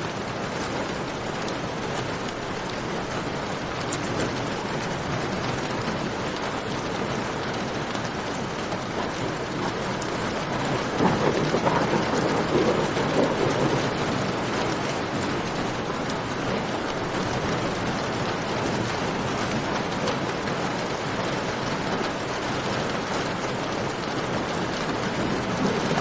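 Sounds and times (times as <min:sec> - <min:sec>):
rain falling: 0:00.0 - 0:26.0
campfire crackling: 0:00.1 - 0:21.2.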